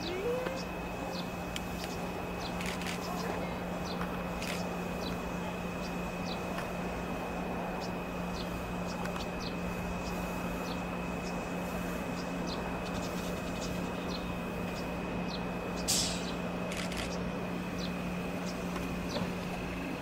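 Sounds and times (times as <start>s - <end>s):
railcar engine humming: 0.0s - 20.0s.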